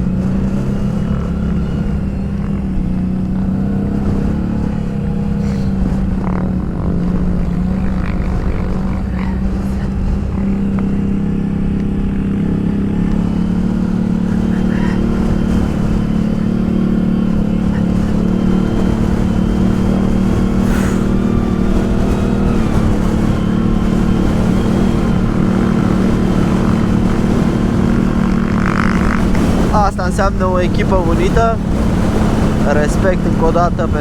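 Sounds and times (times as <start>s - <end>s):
atv engine droning: 0.0s - 34.0s.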